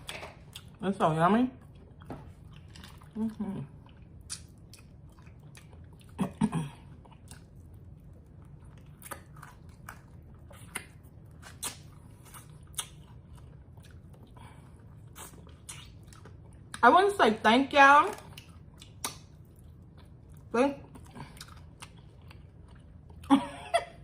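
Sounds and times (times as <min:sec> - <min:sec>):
crunchy chewing of fried chicken: 0:01.5 - 0:16.8, 0:18.1 - 0:23.3.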